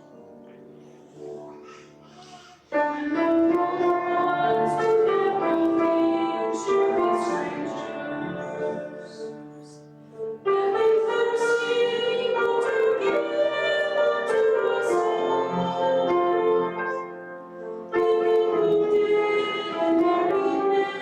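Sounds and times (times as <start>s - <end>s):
congregation singing a hymn: 0.0s - 21.0s
instrumental accompaniment: 0.0s - 21.0s.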